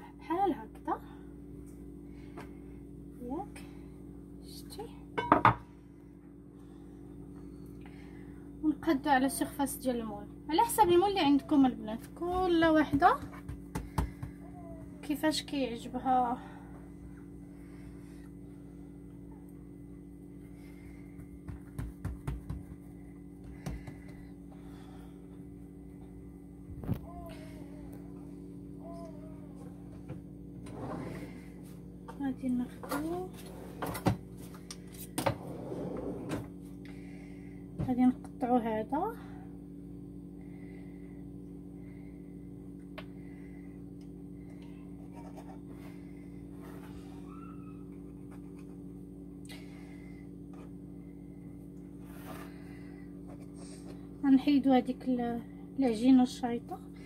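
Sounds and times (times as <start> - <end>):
low hum: 0.0 - 21.8, 22.6 - 57.0.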